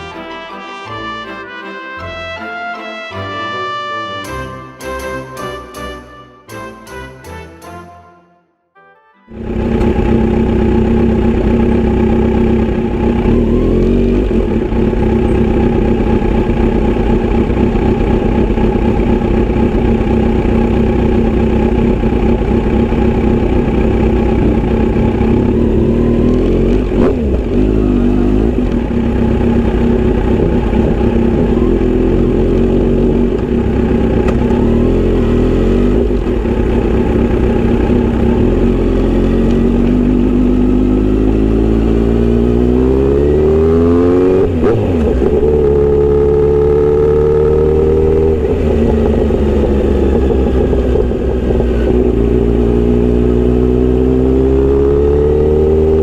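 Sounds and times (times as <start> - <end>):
motorcycle engine running: 9.3 - 56.0.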